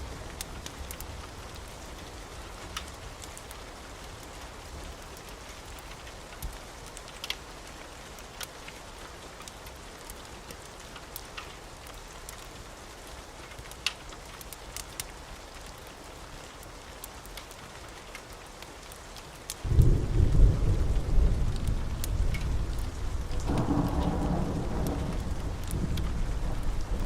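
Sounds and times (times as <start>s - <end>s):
wood fire crackling and popping: 0.2s - 27.0s.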